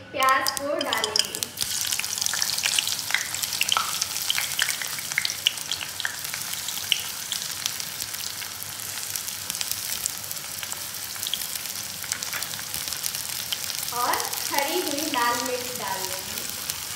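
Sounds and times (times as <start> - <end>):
onions sizzling in oil: 0.4 - 16.9.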